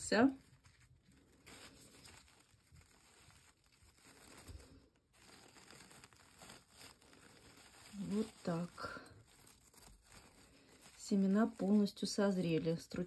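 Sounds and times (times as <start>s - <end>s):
paper napkin rustling and crinkling: 0.0s - 13.0s.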